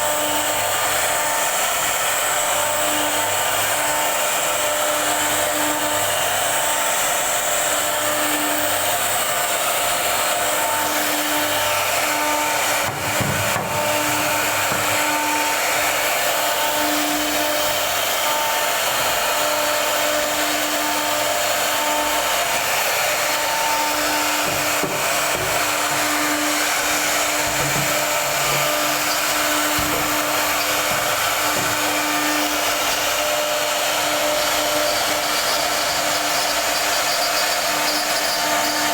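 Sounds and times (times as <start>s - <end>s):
router whirring hiss: 0.0s - 38.9s.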